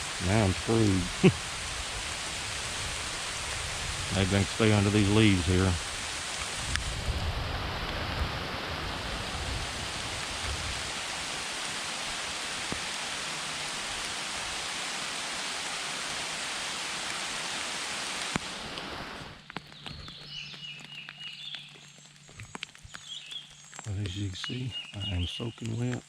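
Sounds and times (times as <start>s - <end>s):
heavy rain pouring: 0.0s - 19.4s, 23.8s - 25.9s
quiet outdoor ambience: 0.0s - 26.0s.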